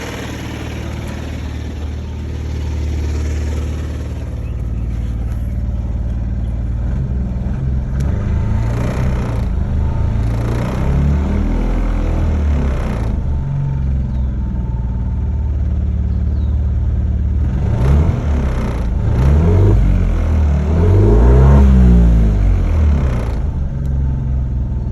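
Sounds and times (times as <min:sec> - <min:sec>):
car engine rough idle revving: 0:00.0 - 0:24.9.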